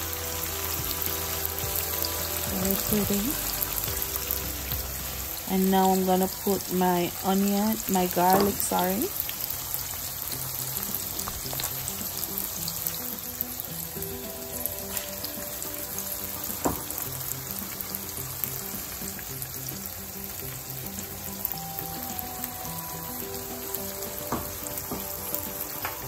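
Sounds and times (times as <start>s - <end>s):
soft background music: 0.0s - 26.0s
vegetables sizzling in a frying pan: 0.0s - 26.0s.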